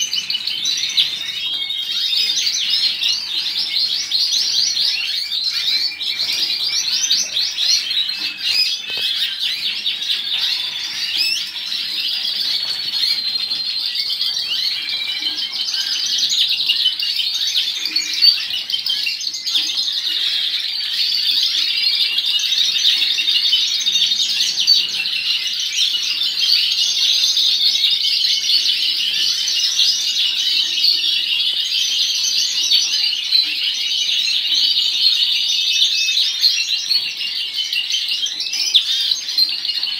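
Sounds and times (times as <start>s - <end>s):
canaries singing and chirping: 0.0s - 39.9s.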